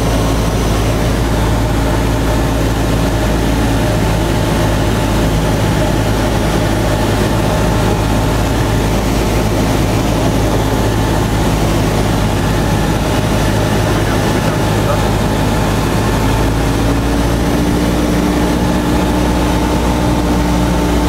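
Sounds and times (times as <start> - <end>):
airplane engine droning in cabin: 0.0 - 21.0.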